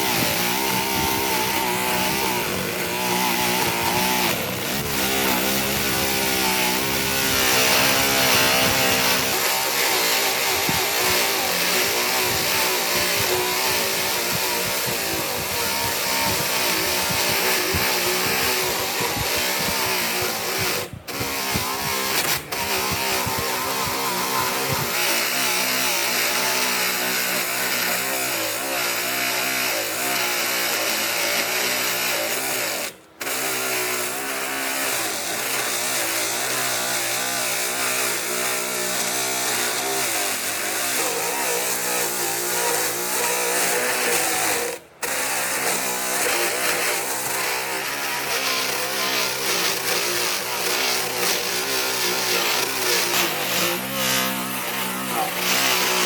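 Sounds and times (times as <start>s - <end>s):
power tool cutting wood: 0.0s - 56.0s.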